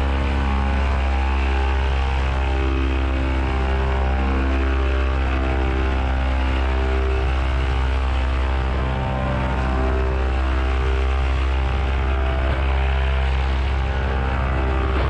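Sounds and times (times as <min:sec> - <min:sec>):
paramotor engine drone: 0:00.0 - 0:15.0.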